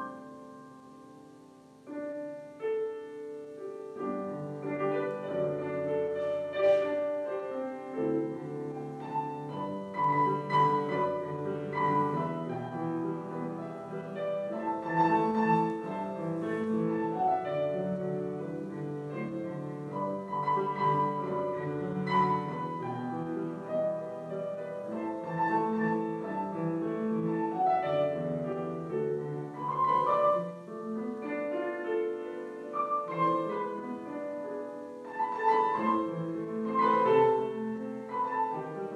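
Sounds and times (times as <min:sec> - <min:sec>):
classical piano music: 0:00.0 - 0:38.9.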